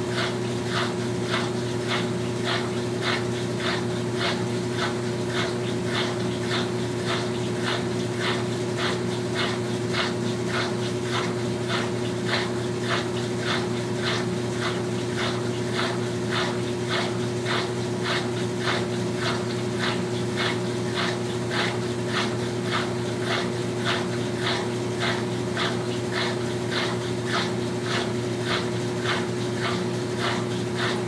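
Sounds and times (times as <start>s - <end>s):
washing machine motor hum: 0.0s - 31.0s.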